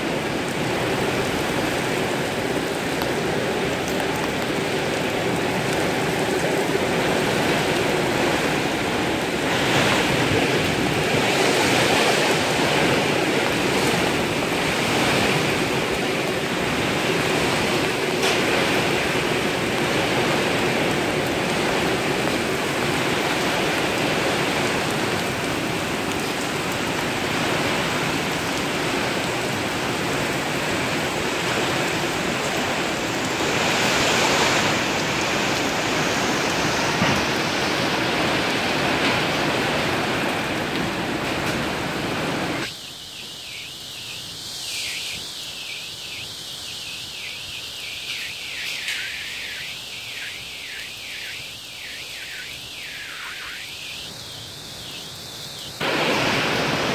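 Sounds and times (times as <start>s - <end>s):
heavy rain on road and trees: 0.0s - 56.9s
wind: 0.0s - 56.9s.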